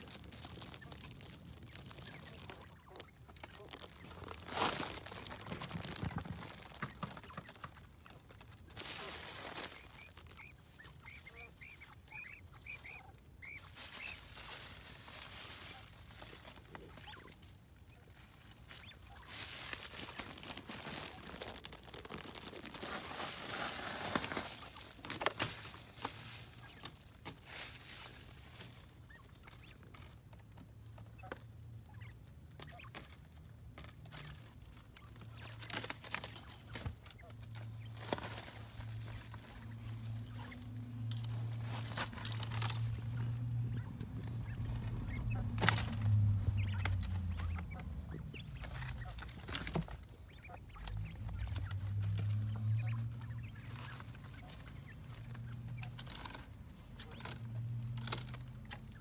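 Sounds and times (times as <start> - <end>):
quail chirping: 0.0 - 59.0
rustling in dry leaves: 0.0 - 59.0.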